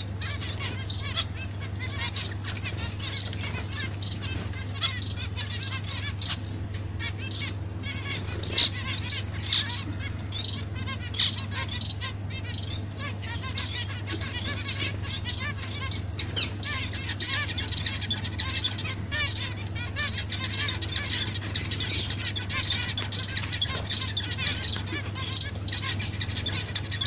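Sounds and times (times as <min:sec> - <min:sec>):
finches chirping: 0:00.0 - 0:27.0.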